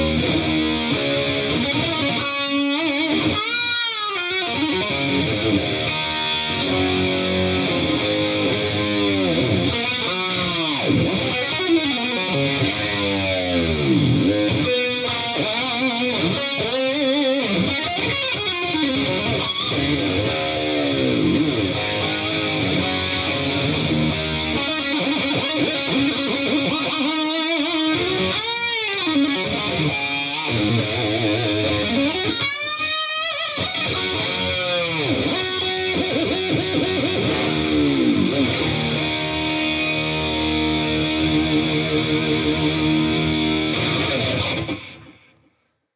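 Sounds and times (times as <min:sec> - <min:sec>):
electric guitar solo with pitch bends: 0:00.0 - 0:45.4.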